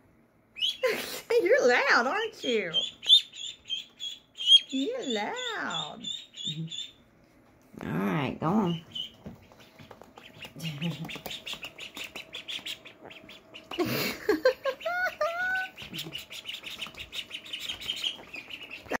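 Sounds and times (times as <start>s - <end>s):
ducklings peeping: 0.6s - 7.1s, 7.8s - 19.0s.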